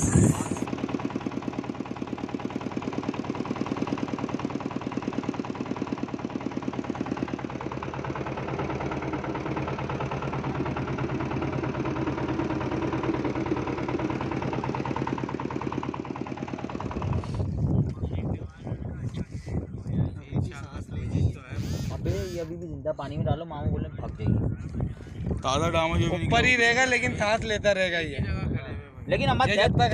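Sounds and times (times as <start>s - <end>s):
boat engine chugging: 0.0s - 22.9s, 23.8s - 28.0s.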